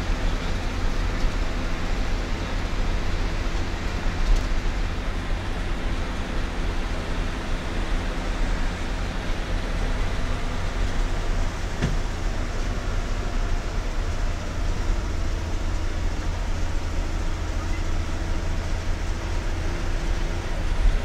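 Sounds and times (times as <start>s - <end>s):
engine and road noise in car: 0.0s - 21.0s.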